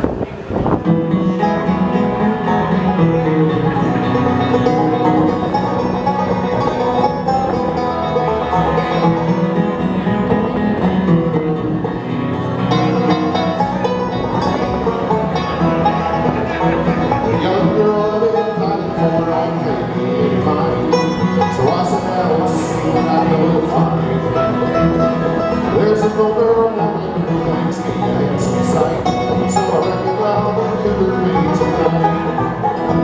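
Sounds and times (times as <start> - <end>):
bluegrass band playing: 0.0 - 33.0
guitar: 0.0 - 33.0
rapid banjo picking: 0.8 - 33.0.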